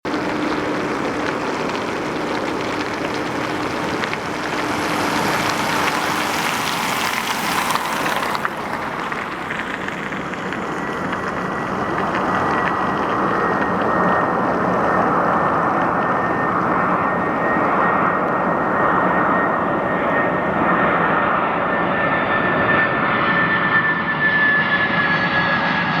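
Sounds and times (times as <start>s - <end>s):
high whine: 0.0s - 25.9s
jet engines roaring: 0.0s - 26.0s.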